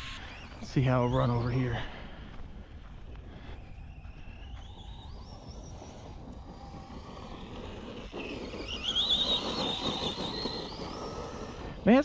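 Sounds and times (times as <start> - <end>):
toy truck electric motor whining: 0.0 - 2.0, 3.6 - 12.0.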